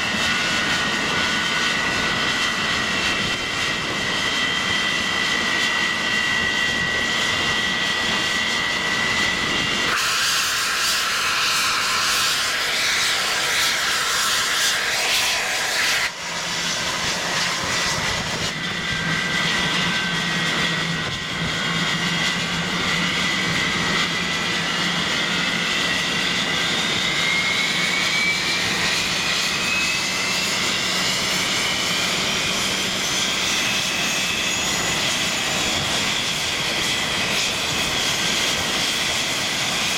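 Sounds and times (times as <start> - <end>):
jet engines high whine: 0.0 - 39.9.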